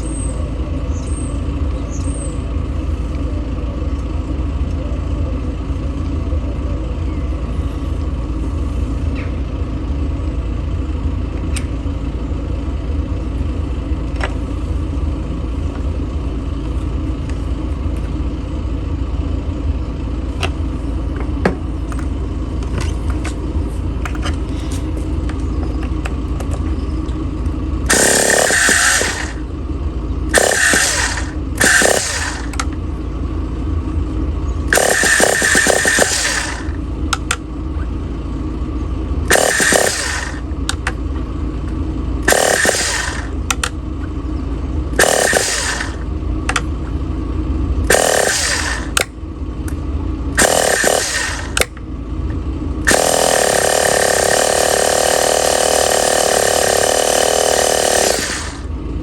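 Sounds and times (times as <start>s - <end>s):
small two-stroke engine running: 0.0s - 59.0s.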